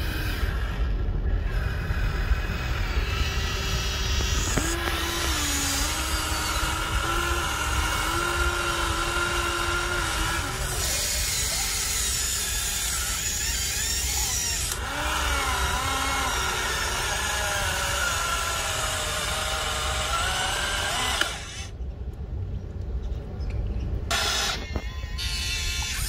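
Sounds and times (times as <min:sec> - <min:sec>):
electric gear motors whining: 0:00.0 - 0:21.8, 0:24.1 - 0:26.0.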